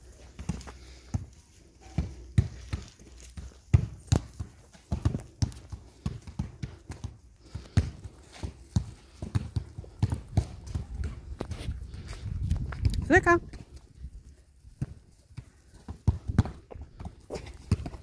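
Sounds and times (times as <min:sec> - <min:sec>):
footsteps on a dirt path: 0:00.0 - 0:18.0.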